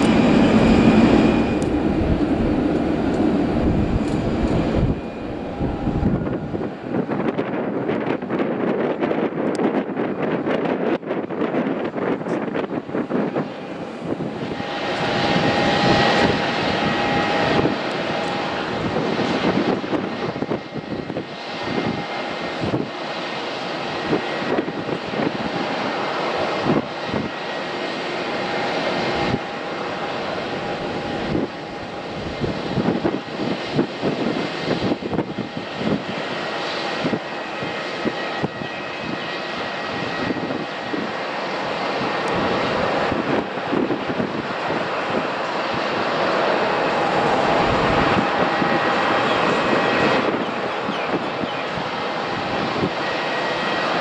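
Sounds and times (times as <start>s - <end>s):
jet engine rush with whine: 0.0s - 54.0s.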